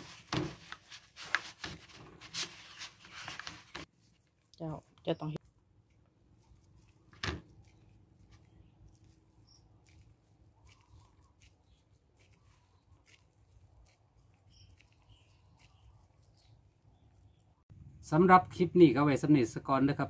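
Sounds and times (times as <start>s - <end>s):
hands squishing wet paste: 0.0s - 17.7s.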